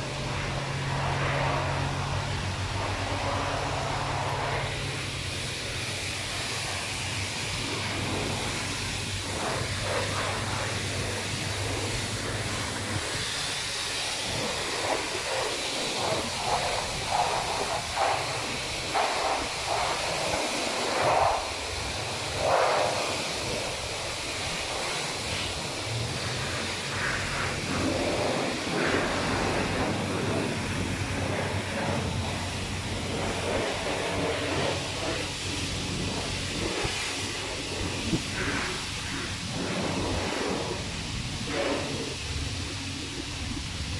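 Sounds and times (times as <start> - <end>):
water spraying onto a car: 0.0 - 43.9.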